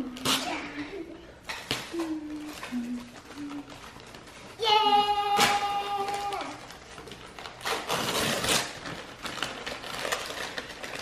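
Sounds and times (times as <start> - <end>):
tissue paper and gift bag rustling: 1.9 - 11.0.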